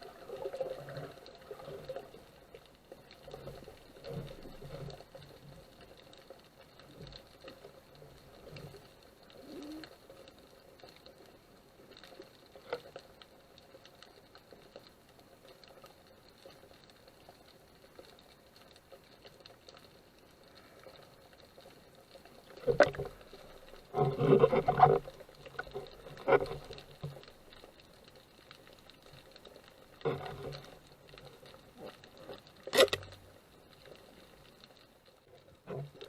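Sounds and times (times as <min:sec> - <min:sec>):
underwater crackle of clicks: 0:00.0 - 0:36.0.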